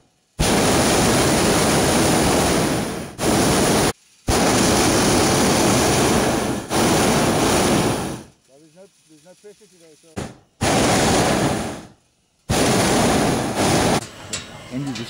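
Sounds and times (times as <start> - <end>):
propane burner roaring: 0.0 - 8.5, 10.2 - 15.0.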